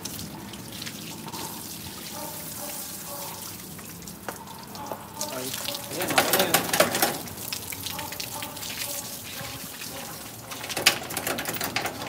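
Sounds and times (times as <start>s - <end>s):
hose water spraying: 0.0s - 12.0s
water splashing on concrete: 0.0s - 12.0s.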